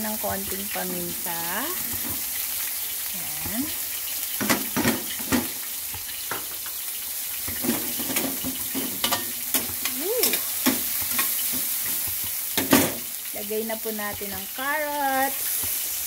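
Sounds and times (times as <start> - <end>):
vegetables sizzling in pan: 0.0 - 16.0.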